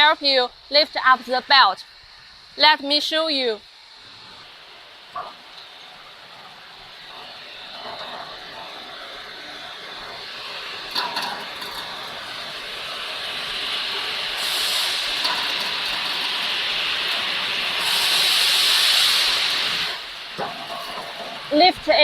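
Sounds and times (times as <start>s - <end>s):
machine hissing: 0.0s - 22.0s.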